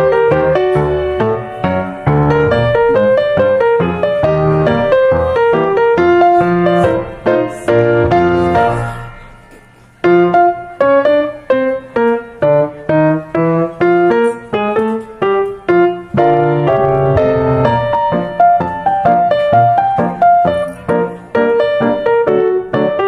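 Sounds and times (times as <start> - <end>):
piano melody: 0.0 - 23.0.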